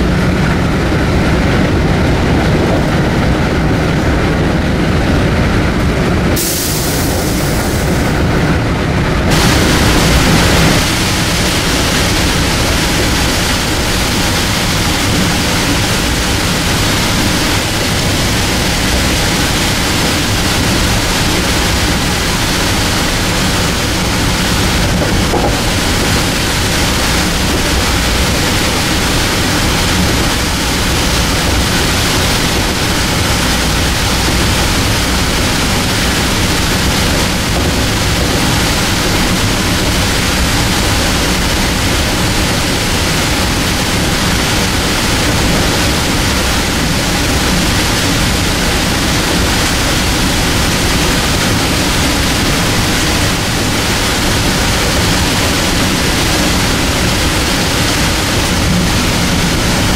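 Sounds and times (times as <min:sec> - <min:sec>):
train wheel-on-rail rumble and hiss: 0:00.0 - 0:59.9.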